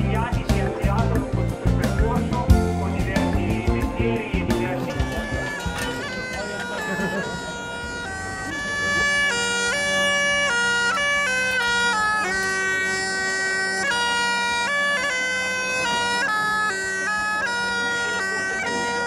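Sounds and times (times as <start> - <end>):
bagpipe playing melody: 1.0 - 19.0.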